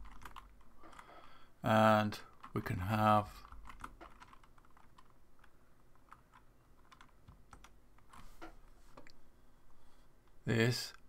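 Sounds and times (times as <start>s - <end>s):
faint keyboard typing: 0.0s - 9.2s.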